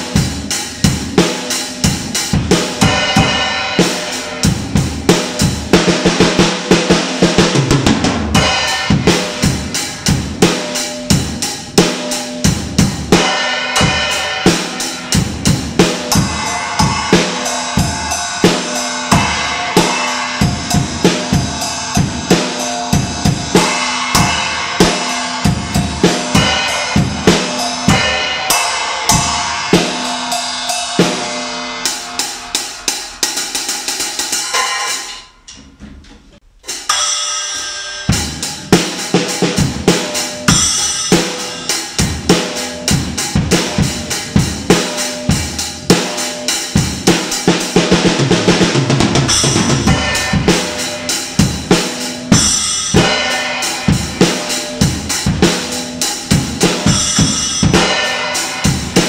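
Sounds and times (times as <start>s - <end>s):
cymbals: 0.0s - 35.7s, 36.4s - 59.0s
drums: 0.0s - 59.0s.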